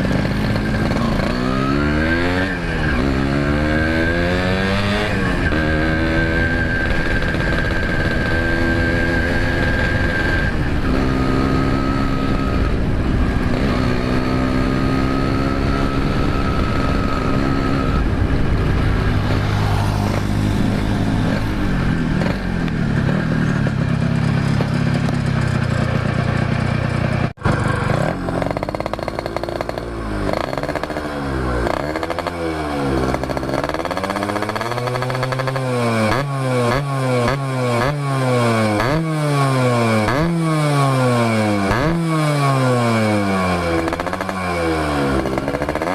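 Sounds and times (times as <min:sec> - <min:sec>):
two-stroke motorcycle revving: 0:00.0 - 0:45.9.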